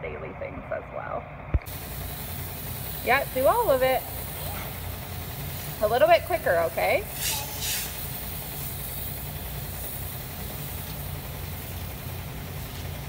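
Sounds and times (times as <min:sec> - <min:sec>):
constant low hum: 0:00.0 - 0:13.0
pressure washer spraying water: 0:01.7 - 0:13.0.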